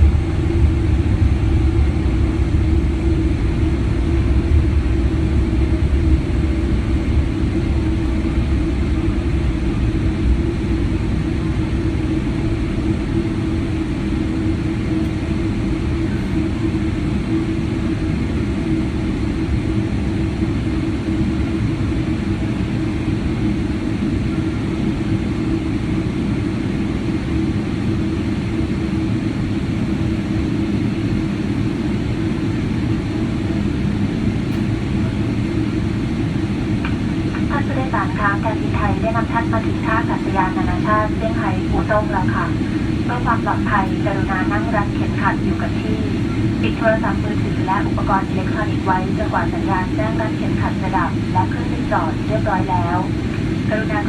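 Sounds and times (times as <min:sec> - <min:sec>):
aircraft cabin rumble and hum: 0:00.0 - 0:54.0.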